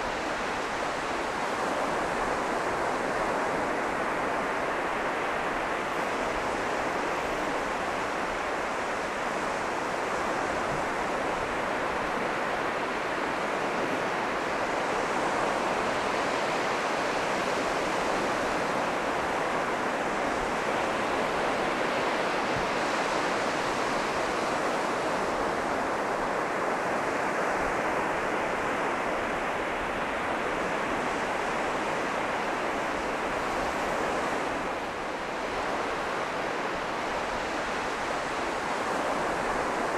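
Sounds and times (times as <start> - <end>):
surf washing up a beach: 0.0 - 39.9.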